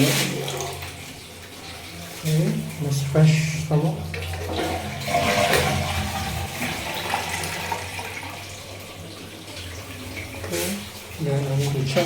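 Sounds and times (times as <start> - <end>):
toilet flushing: 0.0 - 12.0.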